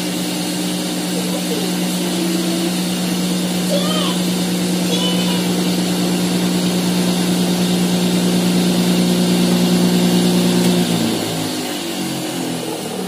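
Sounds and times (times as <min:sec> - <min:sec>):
cotton candy machine humming: 0:00.0 - 0:13.0.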